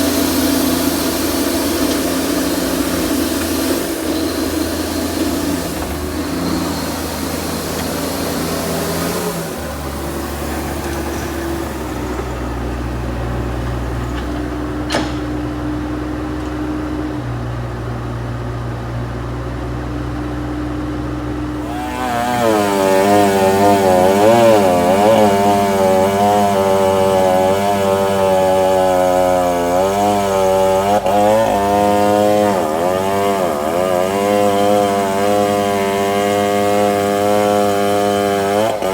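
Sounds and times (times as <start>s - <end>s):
chainsaw cutting wood: 0.0s - 16.0s, 21.6s - 38.9s
diesel engine running: 0.0s - 34.4s.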